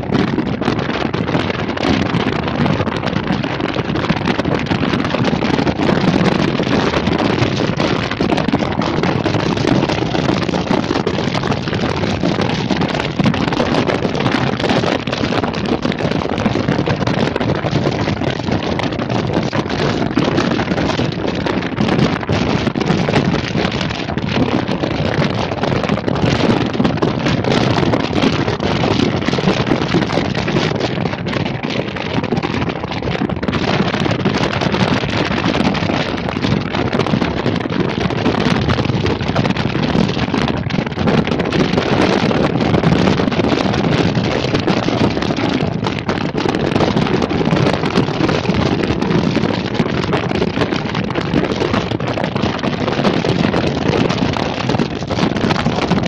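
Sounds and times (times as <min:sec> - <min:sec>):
moving vehicle noise: 0:00.0 - 0:56.0
wind rushing over microphone: 0:00.0 - 0:56.0.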